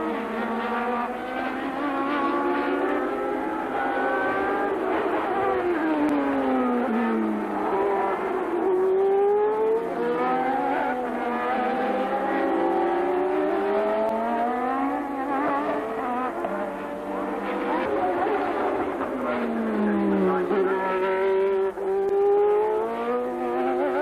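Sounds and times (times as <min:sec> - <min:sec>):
racing car engines passing: 0:00.0 - 0:24.0.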